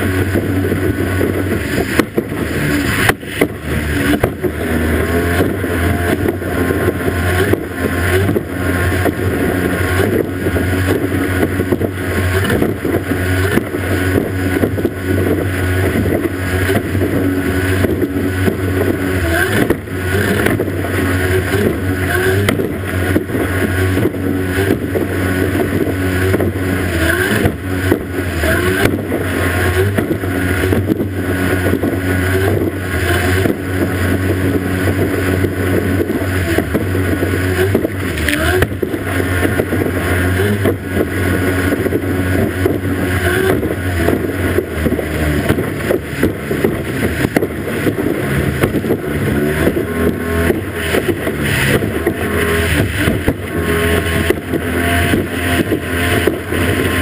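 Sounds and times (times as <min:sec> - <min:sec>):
hull slapping waves: 0:00.0 - 0:57.0
outboard motor running flat out: 0:00.0 - 0:57.0
water rushing past hull: 0:00.0 - 0:57.0.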